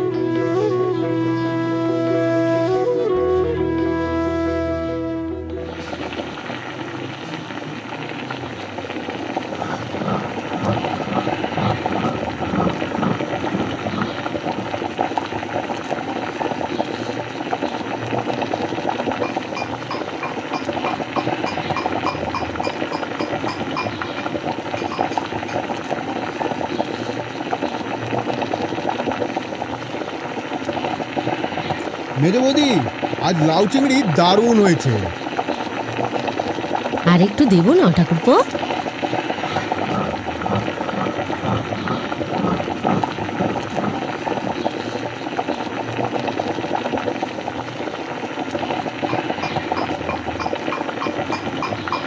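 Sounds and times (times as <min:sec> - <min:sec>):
bubbling crackling noise: 0:05.5 - 0:52.0.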